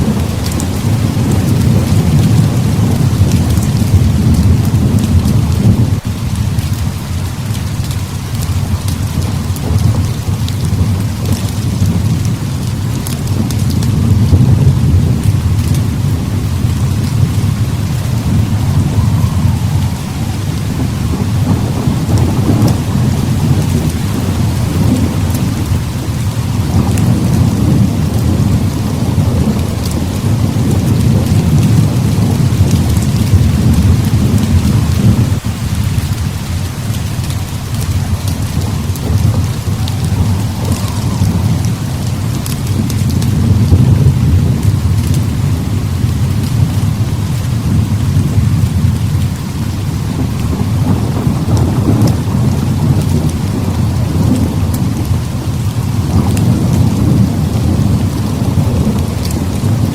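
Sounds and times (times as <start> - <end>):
heavy rain falling: 0.0 - 59.9
low rolling thunder: 0.0 - 59.9.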